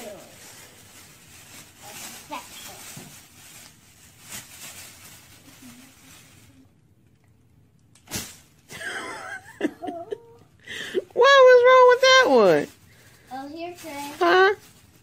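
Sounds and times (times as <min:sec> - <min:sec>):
plastic bag rustling: 0:00.0 - 0:07.1, 0:08.0 - 0:09.4, 0:11.4 - 0:15.0.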